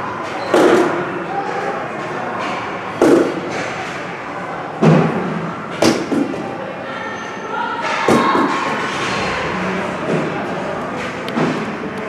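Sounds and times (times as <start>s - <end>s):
echoing hubbub of voices: 0.0s - 12.0s.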